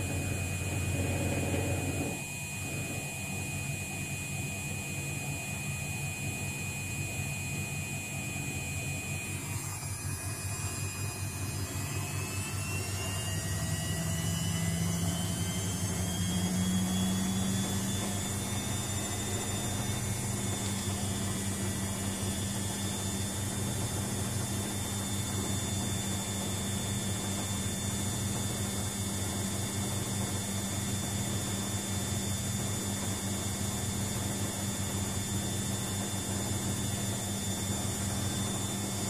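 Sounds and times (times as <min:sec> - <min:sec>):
low hum: 0:00.0 - 0:04.5, 0:11.3 - 0:39.0
washing machine motor whine: 0:00.0 - 0:39.0.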